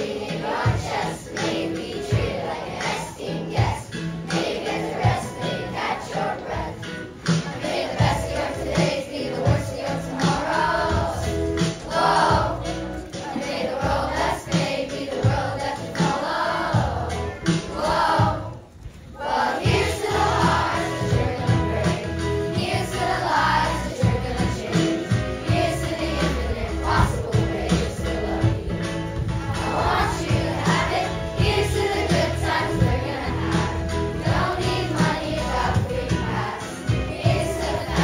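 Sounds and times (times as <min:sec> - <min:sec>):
children's choir singing: 0:00.0 - 0:38.0.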